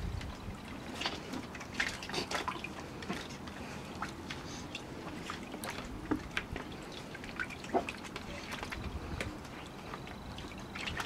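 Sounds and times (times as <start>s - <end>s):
paws tapping on wet plastic: 0.2s - 11.0s.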